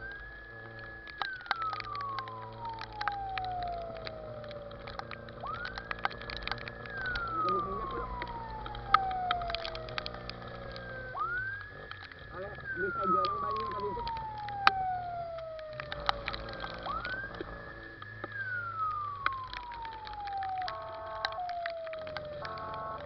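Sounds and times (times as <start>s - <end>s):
emergency vehicle siren wailing: 0.0s - 23.0s
low steady hum: 0.0s - 23.0s
sharp crackles: 0.0s - 23.0s.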